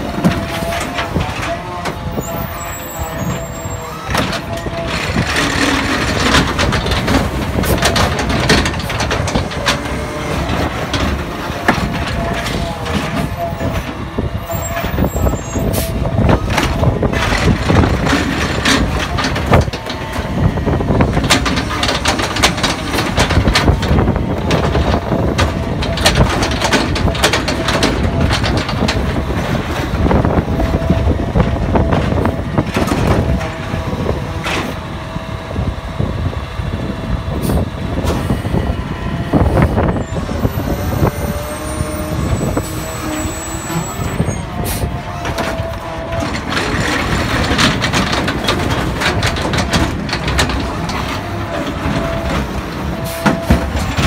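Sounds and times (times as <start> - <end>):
cart clanking and thudding: 0.0 - 54.0
diesel engine under load: 0.0 - 54.0
hydraulic whine: 0.0 - 54.0.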